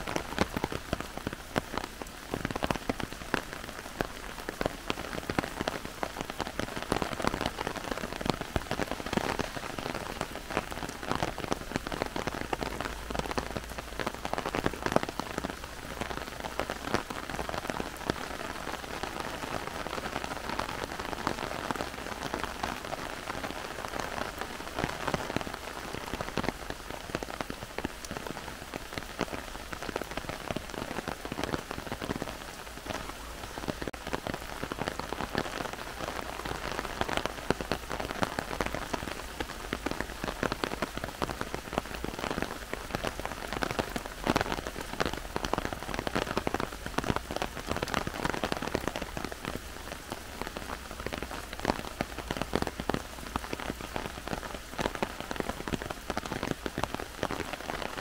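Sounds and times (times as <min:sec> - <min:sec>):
heavy rain on trees: 0:00.0 - 0:58.0.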